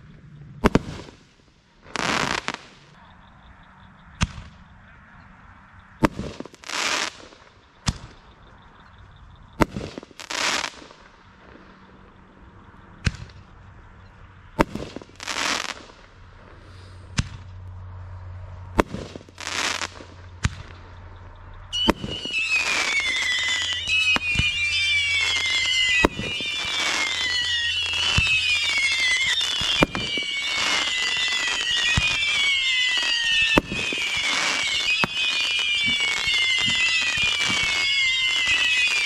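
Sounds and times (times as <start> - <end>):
fireworks bangs and crackling: 0.0 - 3.0, 4.2 - 4.8, 6.0 - 13.6, 14.4 - 17.6, 18.6 - 39.0
whistling fireworks falling in pitch: 0.0 - 17.6, 18.8 - 39.0.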